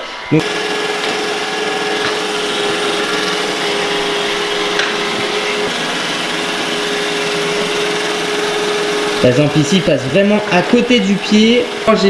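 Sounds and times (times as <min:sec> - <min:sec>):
robot vacuum motor whir: 0:00.4 - 0:12.0.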